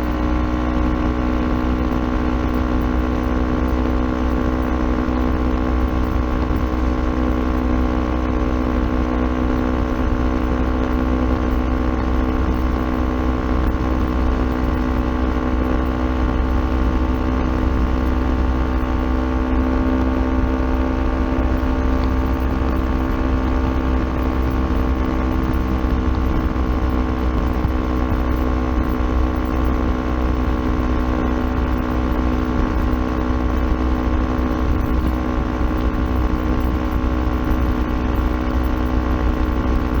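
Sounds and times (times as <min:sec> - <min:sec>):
motorcycle engine cruising: 0:00.0 - 0:40.0.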